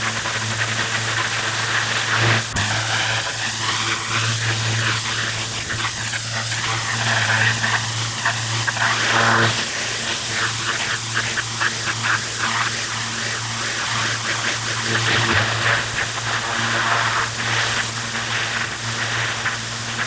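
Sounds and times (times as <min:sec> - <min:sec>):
low machine hum: 0:00.0 - 0:20.0
pressure washer spraying stone: 0:00.0 - 0:20.0.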